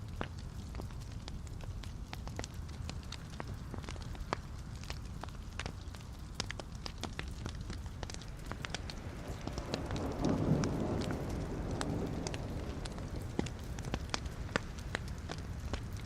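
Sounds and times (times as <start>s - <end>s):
logs crackling and popping: 0.0s - 16.0s
low rush of flame: 0.0s - 16.0s.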